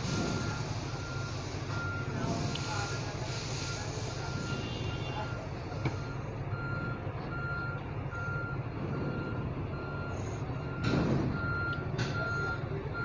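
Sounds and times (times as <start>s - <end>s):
low steady rumble: 0.0s - 13.0s
vehicle reversing alarm beeping: 0.0s - 13.0s.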